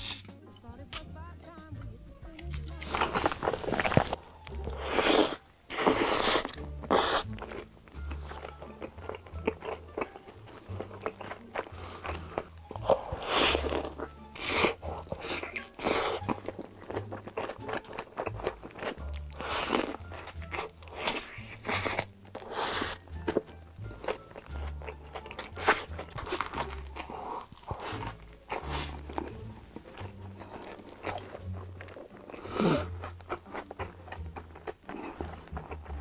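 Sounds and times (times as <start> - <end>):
background music with bass: 0.0 - 36.0
crunching bites and chewing: 2.4 - 36.0.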